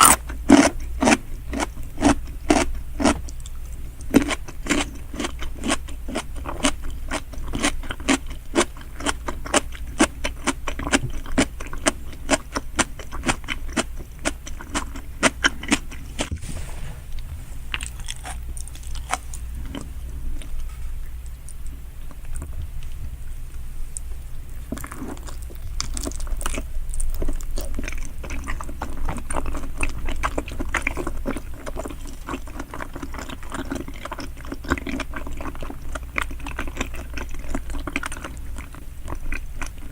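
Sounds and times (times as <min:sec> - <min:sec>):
wet chewing: 0:00.0 - 0:16.4, 0:17.2 - 0:23.0, 0:23.9 - 0:39.9.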